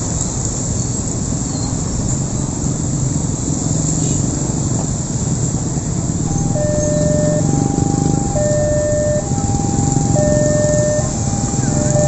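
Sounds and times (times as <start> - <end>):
road noise: 0.0 - 12.0
motorcycle engines idling: 2.2 - 12.0.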